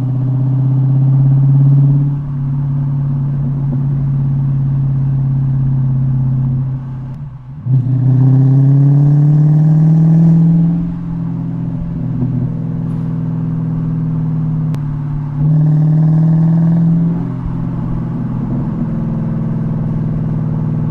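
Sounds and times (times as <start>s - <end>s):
car engine revving: 0.0s - 20.9s
engine deceleration burble: 0.0s - 20.9s.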